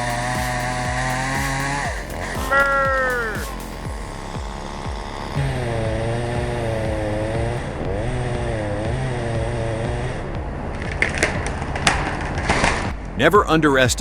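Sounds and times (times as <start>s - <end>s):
chainsaw cutting wood: 0.0s - 12.9s.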